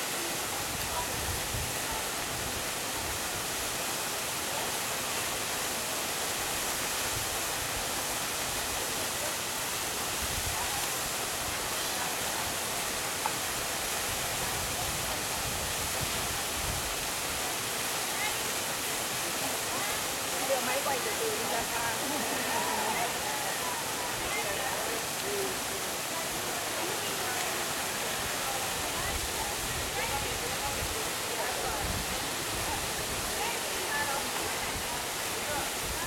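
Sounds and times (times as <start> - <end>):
small waterfall pouring into pool: 0.0 - 36.0.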